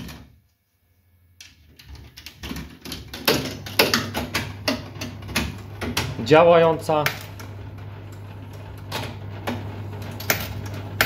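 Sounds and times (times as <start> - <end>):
mains hum: 0.0 - 11.0.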